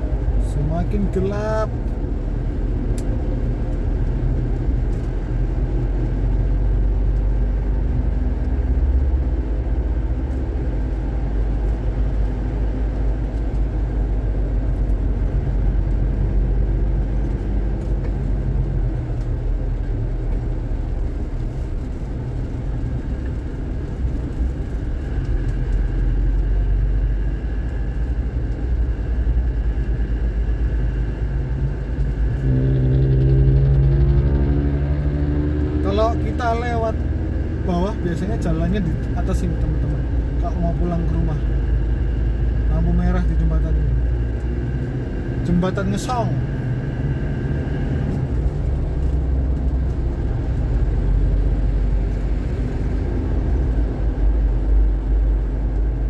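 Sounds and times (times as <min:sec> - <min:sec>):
car engine running: 0:00.0 - 0:56.0
low road rumble: 0:00.0 - 0:56.0.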